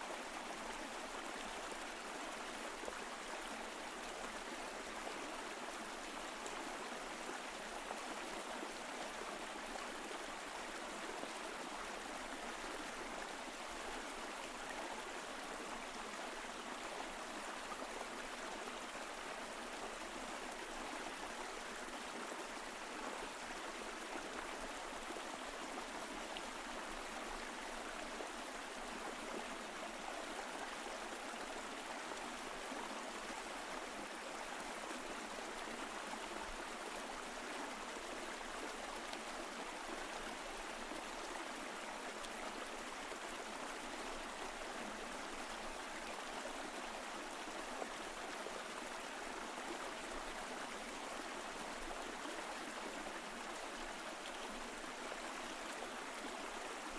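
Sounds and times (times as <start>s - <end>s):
mountain stream flowing: 0.0s - 56.9s.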